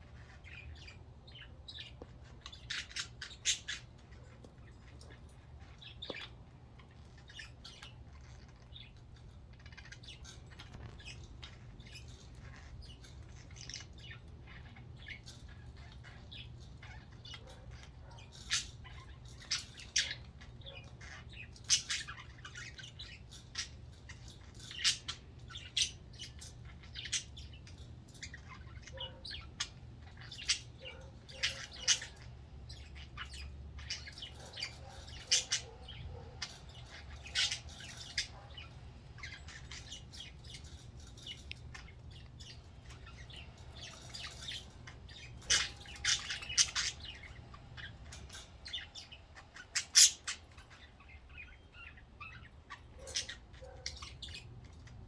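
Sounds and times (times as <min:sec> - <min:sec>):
budgerigars chirping and squawking: 0:00.0 - 0:55.0.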